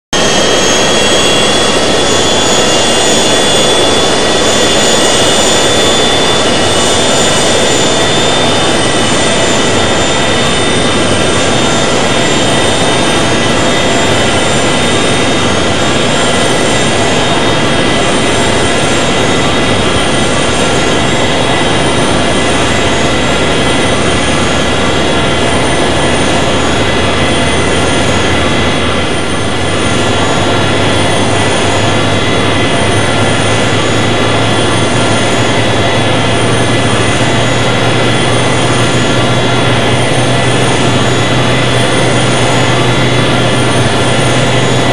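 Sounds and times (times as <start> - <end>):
jet engines heard from cabin: 0.1 - 44.9.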